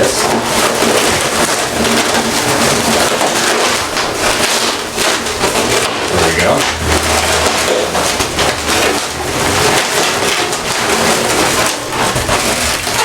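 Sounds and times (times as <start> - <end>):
balloons rubbing and squeaking: 0.0 - 13.0.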